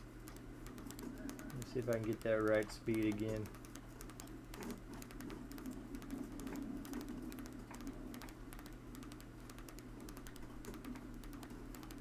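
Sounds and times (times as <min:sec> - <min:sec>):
quick irregular clicks: 0:00.0 - 0:12.0.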